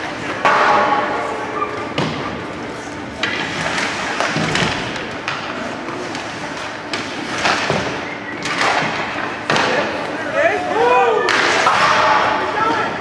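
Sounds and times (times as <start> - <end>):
puck and sticks thumping boards: 0.0 - 13.0.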